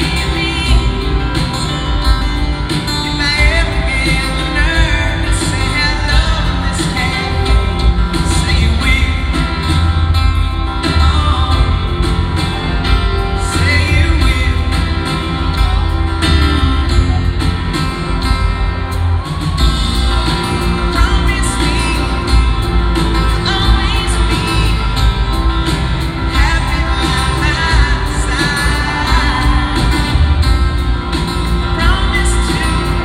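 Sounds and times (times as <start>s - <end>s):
man singing: 0.0s - 18.1s, 20.3s - 33.0s
live slow pop song: 0.0s - 33.0s.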